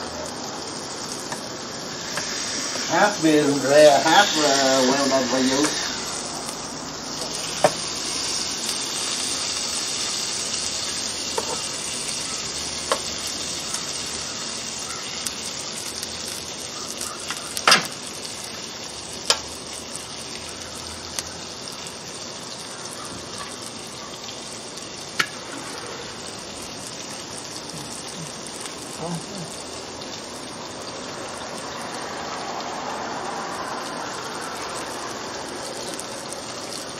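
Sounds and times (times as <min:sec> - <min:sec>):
steak sizzling on grill: 0:00.0 - 0:36.9.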